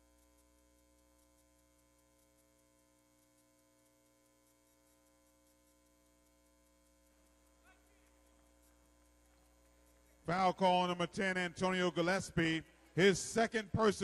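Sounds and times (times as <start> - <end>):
faint electrical hum: 0.0 - 14.0
faint regular ticking: 0.0 - 14.0.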